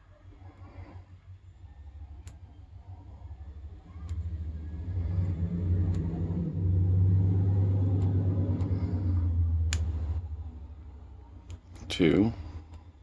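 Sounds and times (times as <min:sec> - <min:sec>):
vehicle engine rumble: 0:00.2 - 0:13.0.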